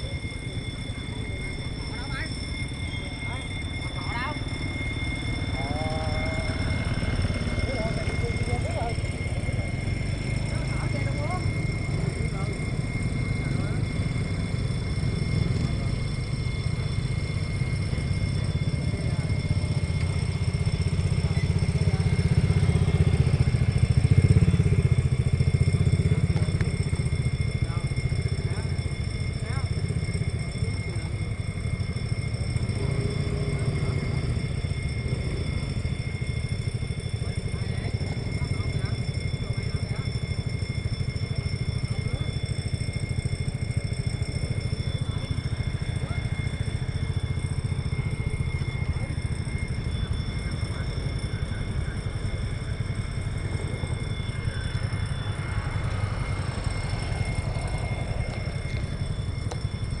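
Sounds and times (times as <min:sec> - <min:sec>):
faint high-pitched tones: 0:00.0 - 1:00.0
high-pitched whine: 0:00.0 - 1:00.0
low engine rumbling: 0:00.0 - 1:00.0.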